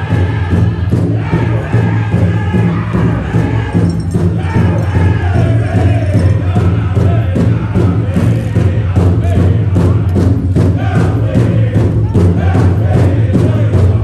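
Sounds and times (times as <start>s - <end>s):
drum struck in steady beat: 0.0s - 14.0s
group of voices singing: 0.0s - 14.0s.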